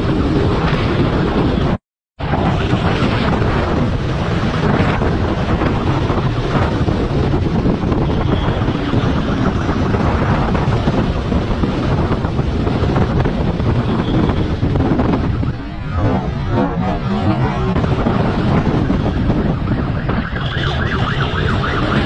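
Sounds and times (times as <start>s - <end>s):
motorcycle vehicle noise: 0.0s - 22.0s
wind buffeting microphone: 0.0s - 22.0s.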